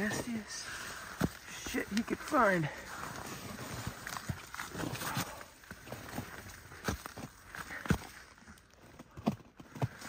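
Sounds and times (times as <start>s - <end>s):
footsteps on rough ground: 0.0s - 10.0s.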